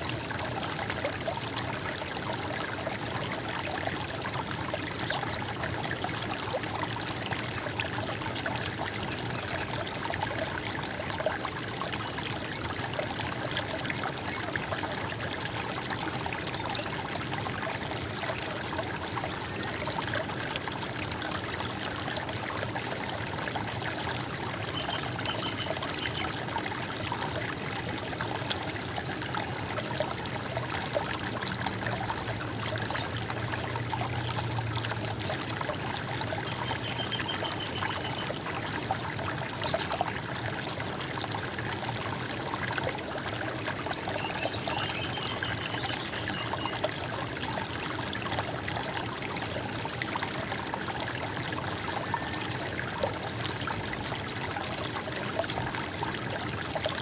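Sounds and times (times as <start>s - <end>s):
water trickling and gurgling: 0.0s - 57.0s.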